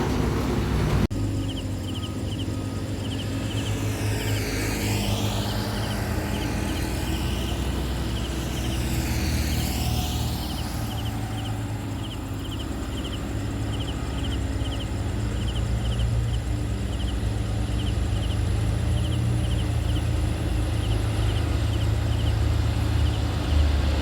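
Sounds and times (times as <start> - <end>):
road noise: 0.0 - 24.0
truck engine drone: 0.0 - 24.0
vehicle passing close: 0.0 - 24.0.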